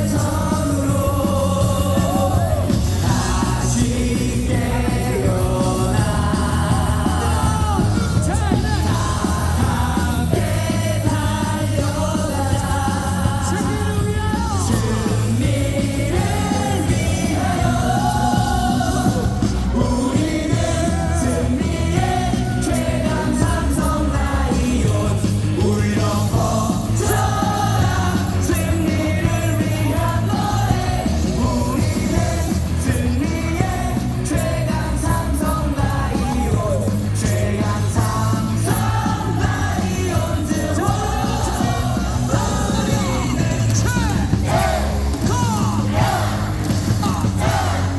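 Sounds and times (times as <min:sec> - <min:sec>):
stadium crowd singing in unison: 0:00.0 - 0:47.9.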